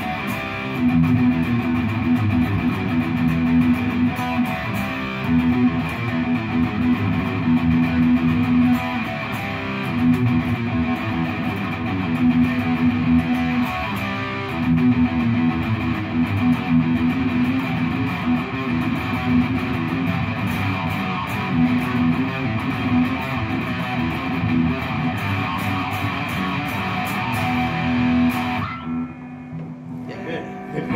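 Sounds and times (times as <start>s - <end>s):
distorted electric guitar riffs: 0.0s - 30.9s.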